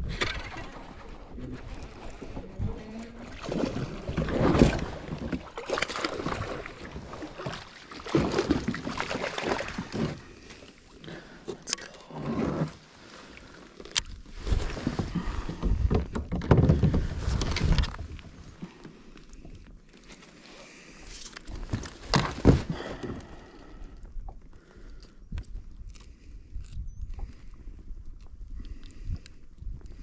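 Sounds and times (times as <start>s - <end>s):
water sloshing: 0.0s - 24.4s.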